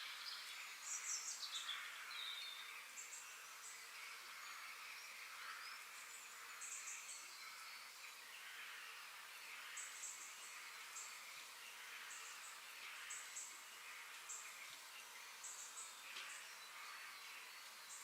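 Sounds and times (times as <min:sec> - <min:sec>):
birds chirping and trilling: 0:00.0 - 0:18.0
steady high hiss: 0:00.0 - 0:18.0.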